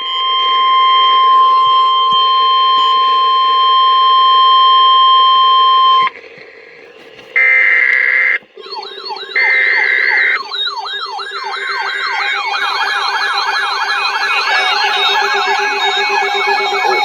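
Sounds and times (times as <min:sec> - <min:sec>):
steady warning alarm beep: 0:00.0 - 0:06.1, 0:07.4 - 0:17.0.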